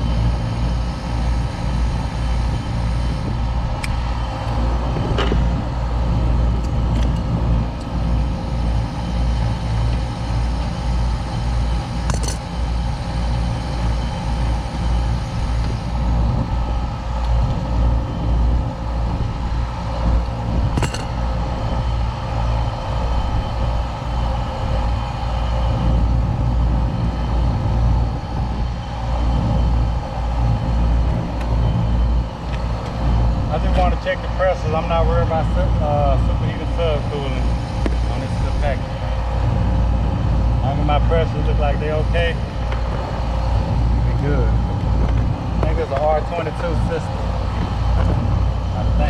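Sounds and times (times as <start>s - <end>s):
air conditioner humming: 0.0s - 49.0s.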